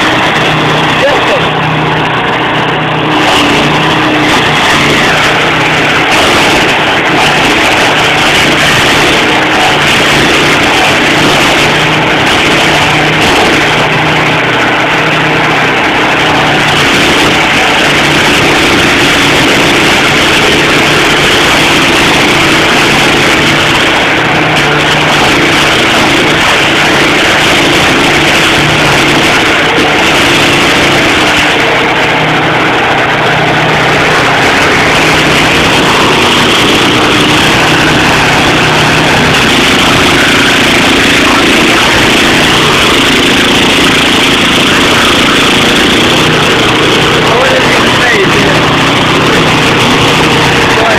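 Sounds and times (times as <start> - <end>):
stump grinder drone: 0.0 - 50.9.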